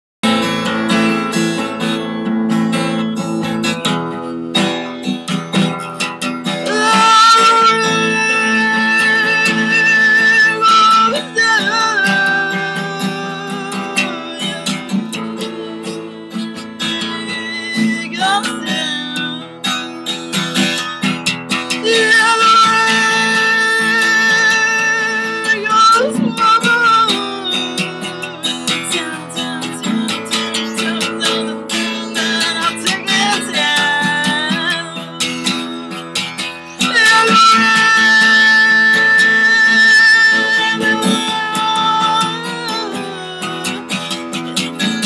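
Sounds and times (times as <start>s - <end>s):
acoustic guitar strumming: 0.2s - 45.0s
woman singing: 6.5s - 19.9s, 21.7s - 45.0s.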